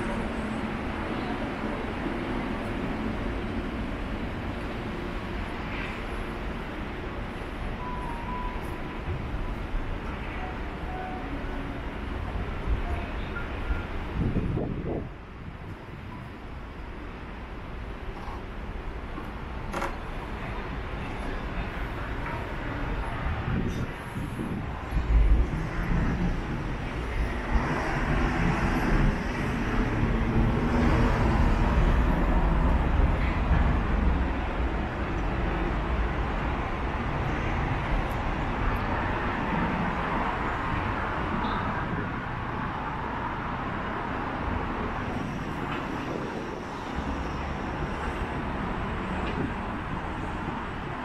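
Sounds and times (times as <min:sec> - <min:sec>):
passing vehicles rumbling: 0:00.0 - 0:51.0
street noise: 0:00.0 - 0:51.0.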